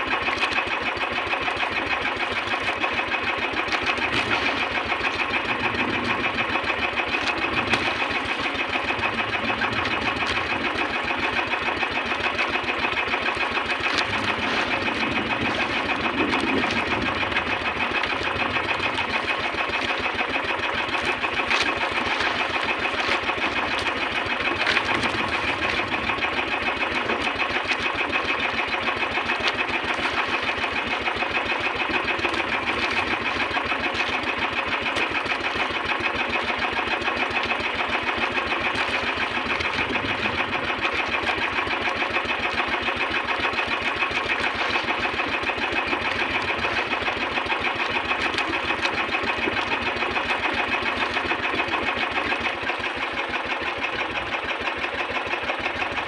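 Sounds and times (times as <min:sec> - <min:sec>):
boat engine pulsing: 0:00.0 - 0:56.0.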